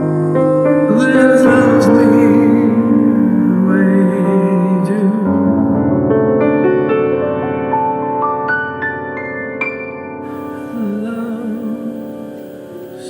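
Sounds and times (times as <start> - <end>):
slow piano ballad: 0.0 - 13.0.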